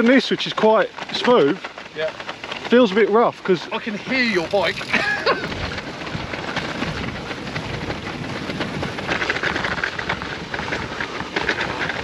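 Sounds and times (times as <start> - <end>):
bicycle rattling over bumps: 0.0 - 12.0.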